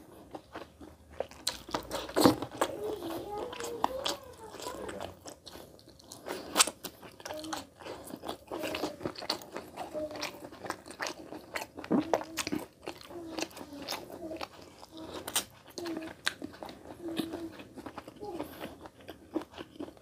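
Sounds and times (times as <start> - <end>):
man chewing wetly: 0.0 - 20.0.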